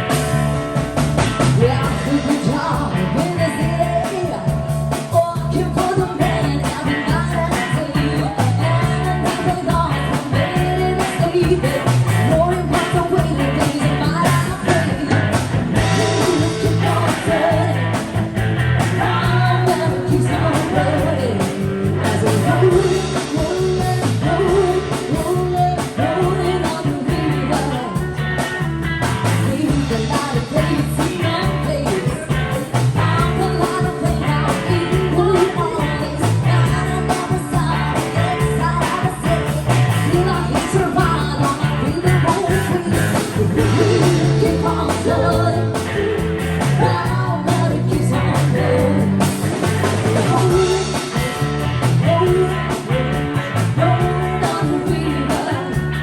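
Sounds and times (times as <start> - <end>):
rock and roll band playing: 0.0 - 56.0
person singing: 1.5 - 28.5, 29.3 - 56.0.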